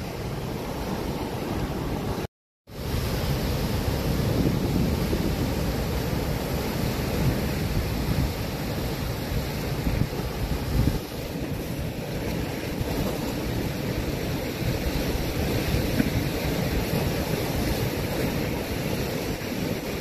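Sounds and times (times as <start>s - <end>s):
surf breaking over boulders: 2.8s - 20.0s
wind buffeting microphone: 2.9s - 20.0s.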